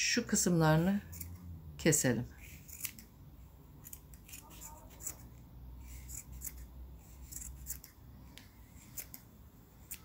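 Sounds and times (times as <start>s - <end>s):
scissors snipping yarn: 0.9s - 1.4s, 2.4s - 10.0s.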